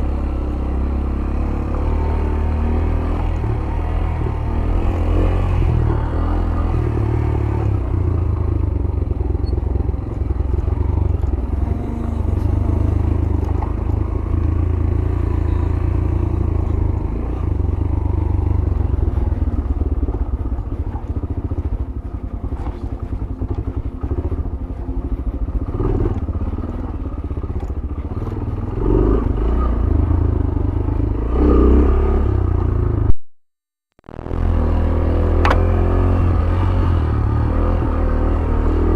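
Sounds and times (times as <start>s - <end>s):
motorcycle engine running: 0.0s - 33.1s, 34.0s - 38.9s.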